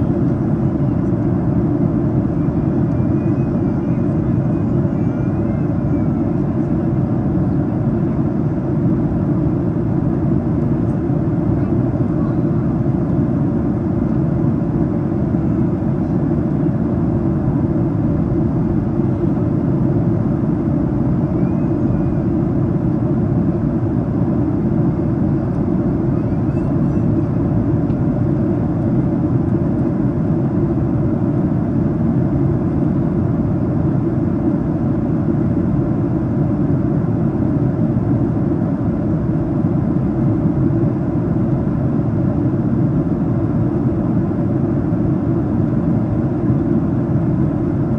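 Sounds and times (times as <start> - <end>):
airplane cabin drone: 0.0 - 47.9.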